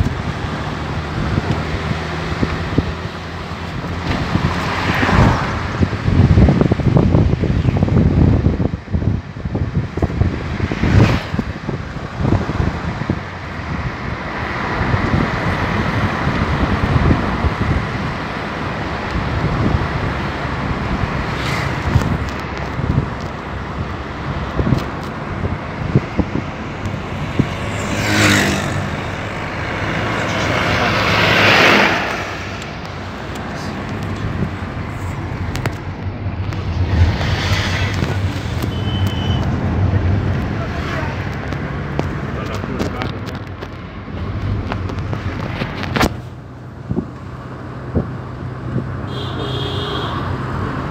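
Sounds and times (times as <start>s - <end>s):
car road and engine noise: 0.0s - 50.9s.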